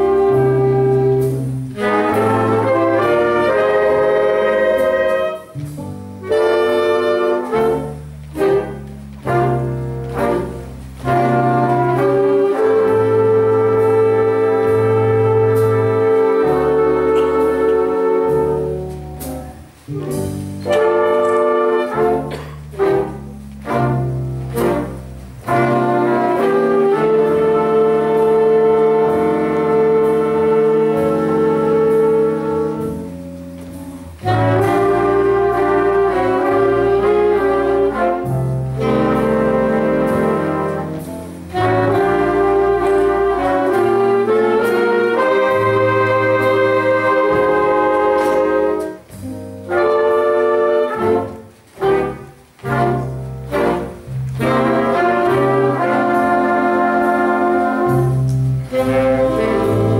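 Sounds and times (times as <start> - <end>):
big band playing slow jazz ballad: 0.0 - 59.9.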